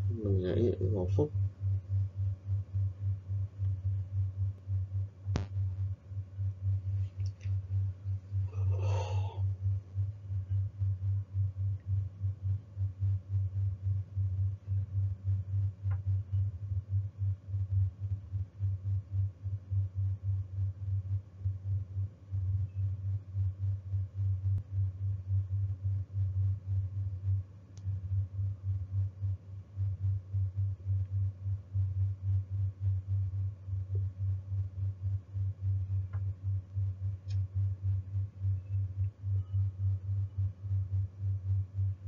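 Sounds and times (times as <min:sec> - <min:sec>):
low pulsing tone: 0:00.0 - 0:42.0.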